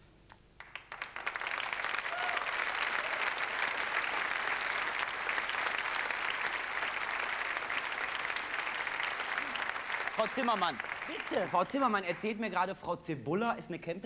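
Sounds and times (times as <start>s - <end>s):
audience applauding: 0.6s - 12.6s.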